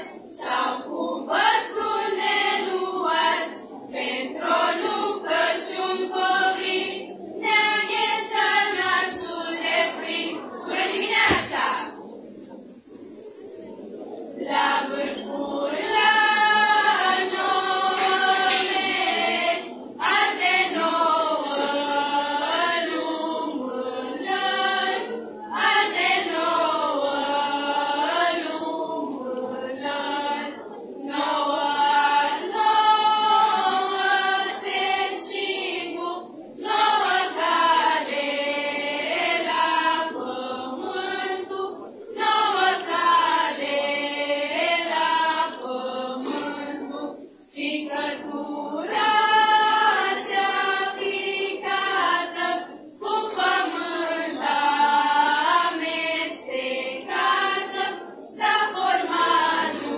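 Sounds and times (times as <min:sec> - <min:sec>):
women singing together unaccompanied: 0:00.0 - 0:12.1, 0:14.3 - 0:59.9.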